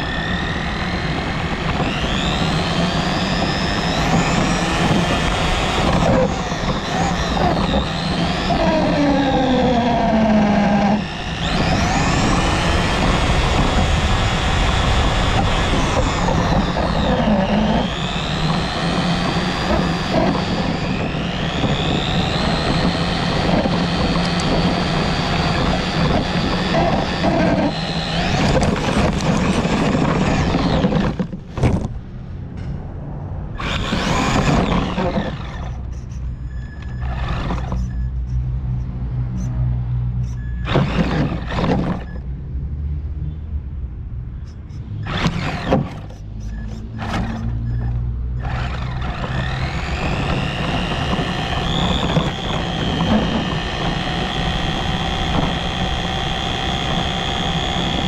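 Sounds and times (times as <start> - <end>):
remote-control car motor whining: 0.0 - 31.6, 33.6 - 38.4, 40.2 - 42.3, 44.5 - 58.0
wheels rattling on road: 0.0 - 38.2, 44.4 - 58.0.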